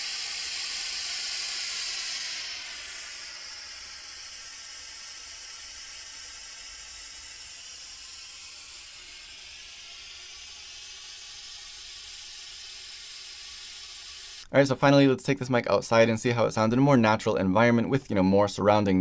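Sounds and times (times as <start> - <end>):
white noise from phone speaker: 0.0 - 18.2.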